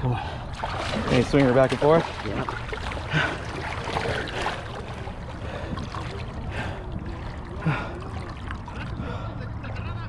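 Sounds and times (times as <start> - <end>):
river water sloshing and lapping: 0.0 - 9.4.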